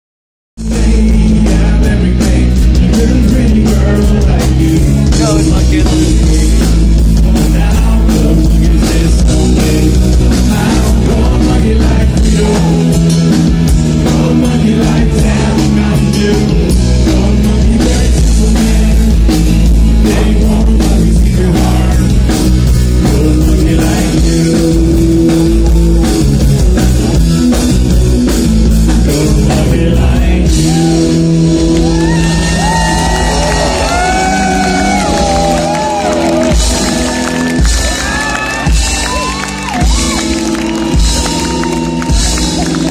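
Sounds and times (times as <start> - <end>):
man singing: 0.6 - 27.6, 28.2 - 36.6
live rock band playing: 0.6 - 42.9.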